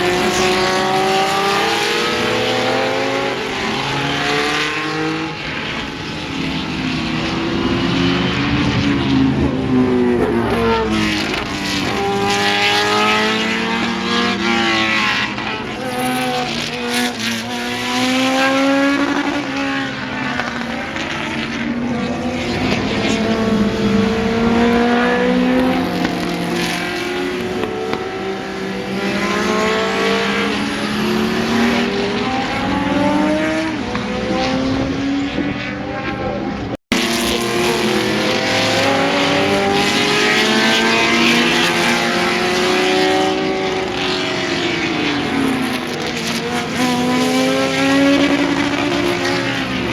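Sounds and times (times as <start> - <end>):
racing car engines accelerating: 0.0 - 49.9.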